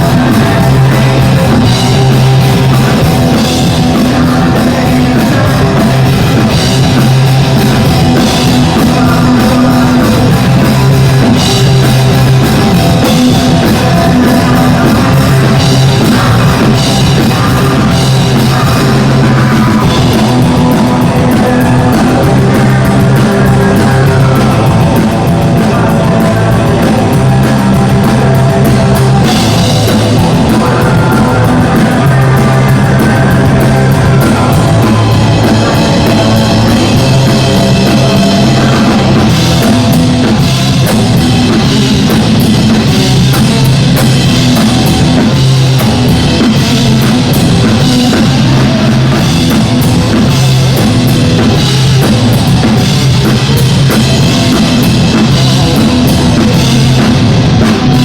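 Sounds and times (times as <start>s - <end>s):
live band playing rock music: 0.0s - 58.0s.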